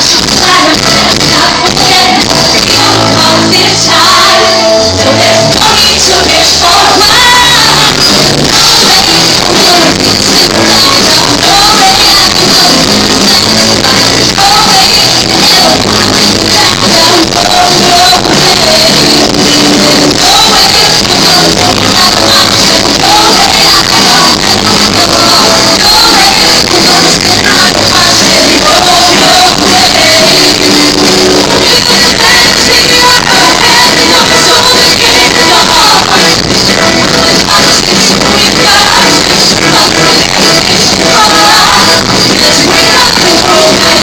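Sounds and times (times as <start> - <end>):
live band and singers performing: 0.0 - 44.0.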